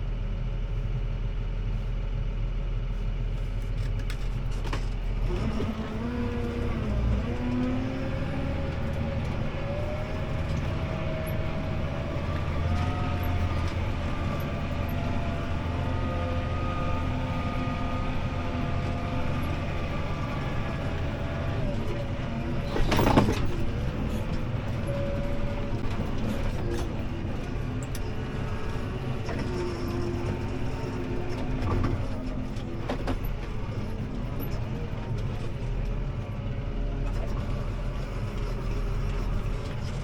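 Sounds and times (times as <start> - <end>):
engine whine: 0.0 - 40.0
tractor diesel engine revving: 0.0 - 40.0.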